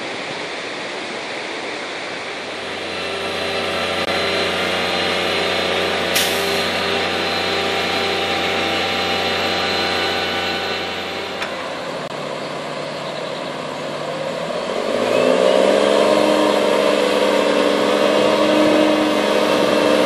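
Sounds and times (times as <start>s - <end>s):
crane engine running: 0.0s - 20.0s.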